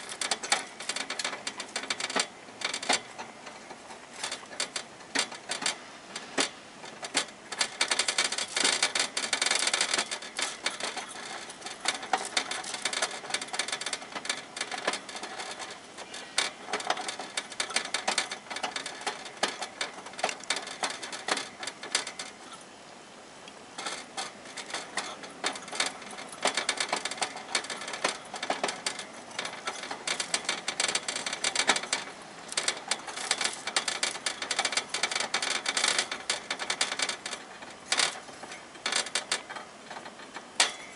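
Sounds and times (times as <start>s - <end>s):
hamster gnawing on cage bars: 0.0s - 22.7s, 23.5s - 40.9s.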